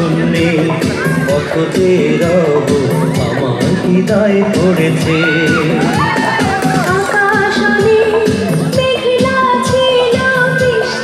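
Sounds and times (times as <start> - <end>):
steady drum beat: 0.0 - 10.2.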